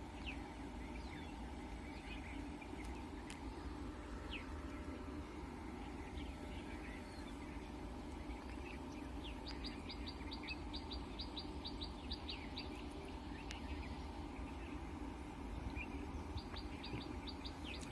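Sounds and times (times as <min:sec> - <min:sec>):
low background noise: 0:00.0 - 0:17.9
small birds chirping: 0:00.0 - 0:17.9.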